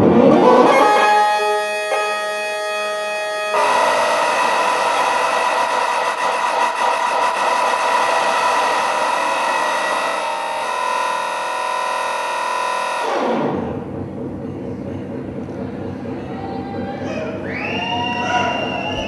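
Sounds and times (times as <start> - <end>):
electronic drone with hiss and tones: 0.0 - 16.2.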